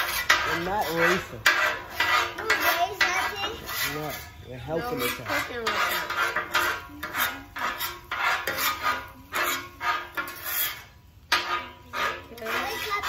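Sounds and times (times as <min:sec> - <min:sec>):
metal spatula scraping griddle: 0:00.0 - 0:13.0.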